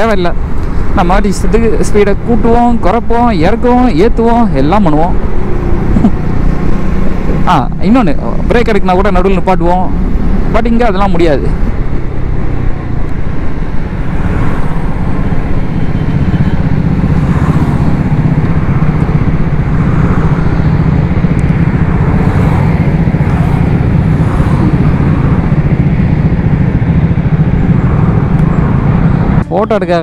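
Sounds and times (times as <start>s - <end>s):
motorcycle engine running: 0.0s - 30.0s
wind and road noise: 0.0s - 30.0s.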